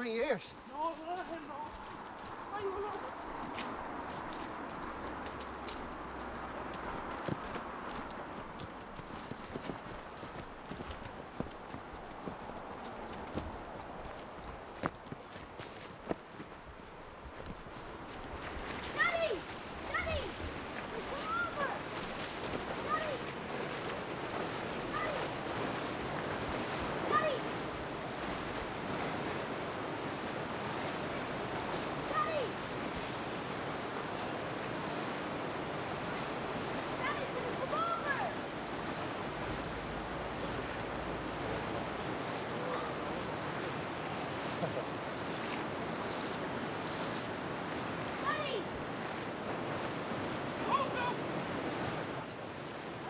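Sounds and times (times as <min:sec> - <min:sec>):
people wading through water: 0:00.0 - 0:53.0
river rushing over stones: 0:00.0 - 0:53.0.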